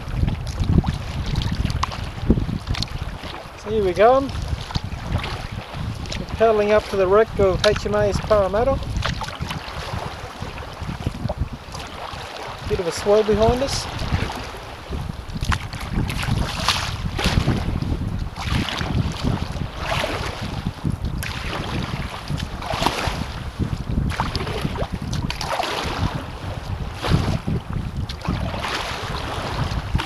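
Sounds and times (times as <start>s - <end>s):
paddle splashing in water: 0.0s - 30.0s
water washing against kayak: 0.0s - 30.0s
wind buffeting microphone: 0.0s - 30.0s.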